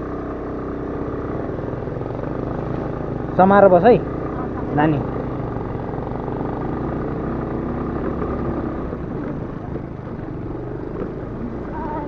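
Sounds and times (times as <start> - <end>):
motor scooter engine running: 0.0 - 12.0.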